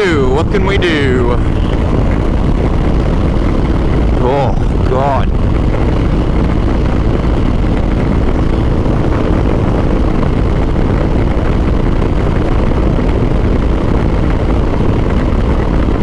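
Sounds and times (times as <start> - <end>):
motorcycle cruising: 0.0 - 16.0
wind noise on microphone: 0.0 - 16.0.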